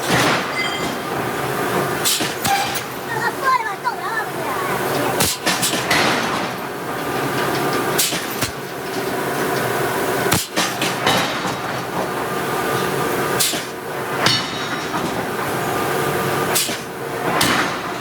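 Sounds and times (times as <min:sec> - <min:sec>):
forge machinery noise: 0:00.0 - 0:18.0
hydraulic hammer striking steel: 0:00.0 - 0:18.0.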